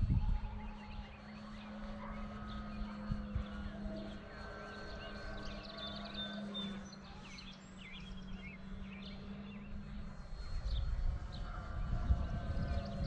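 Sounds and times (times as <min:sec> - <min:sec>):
birds chirping: 0:00.0 - 0:13.0
distant model plane motor humming: 0:00.0 - 0:13.0.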